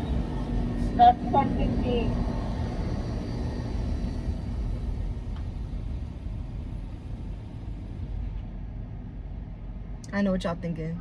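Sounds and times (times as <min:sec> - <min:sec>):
car engine rumble in cabin: 0:00.0 - 0:11.0.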